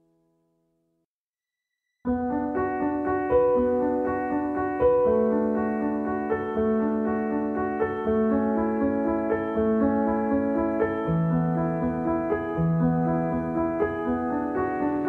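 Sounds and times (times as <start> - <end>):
slow piano music: 2.1 - 15.0.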